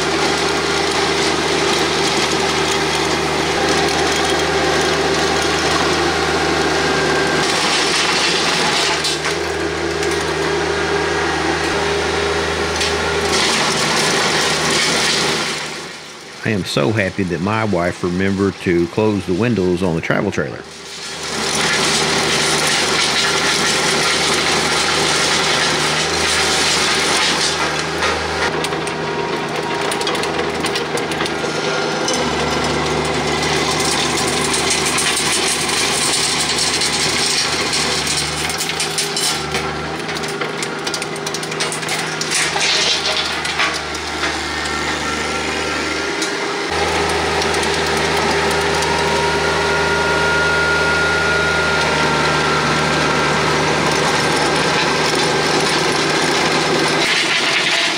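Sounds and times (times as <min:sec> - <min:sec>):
rotary tiller grinding soil: 0:00.0 - 0:16.4, 0:20.7 - 0:57.9
diesel tractor engine drone: 0:00.0 - 0:57.9.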